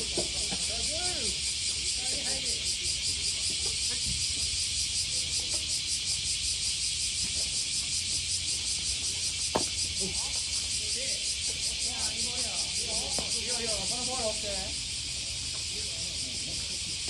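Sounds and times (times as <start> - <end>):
faint distant voices: 0.0 - 6.8, 8.8 - 17.0
insects chirping: 0.0 - 17.0.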